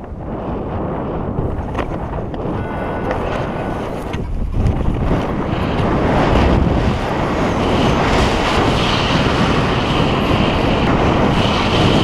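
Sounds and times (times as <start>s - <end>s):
wind blowing over microphone: 0.0s - 12.0s.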